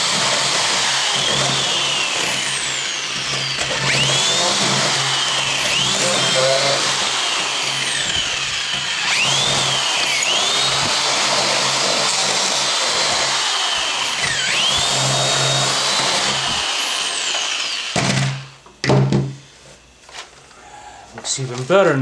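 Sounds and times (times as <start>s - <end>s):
drill grinding through plastic: 0.0s - 18.6s.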